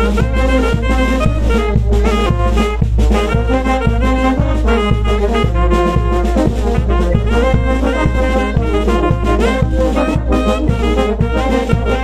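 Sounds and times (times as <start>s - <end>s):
brass band playing dance music: 0.0s - 12.0s
steady drum beat: 0.0s - 12.0s.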